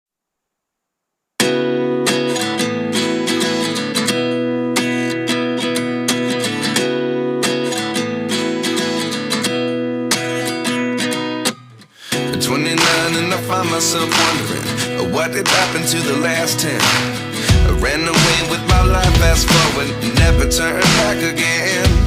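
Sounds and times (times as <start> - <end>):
acoustic guitar strumming: 1.4 - 22.0.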